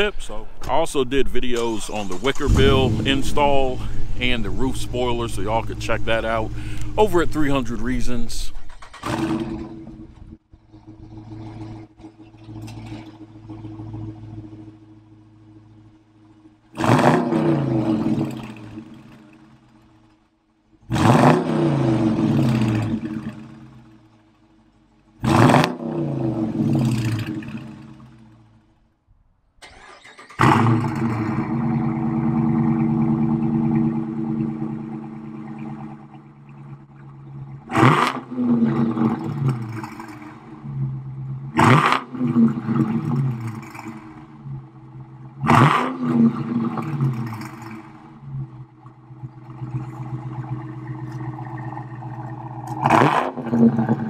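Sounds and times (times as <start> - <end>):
car engine revving and idling: 0.0 - 28.9, 29.6 - 54.0.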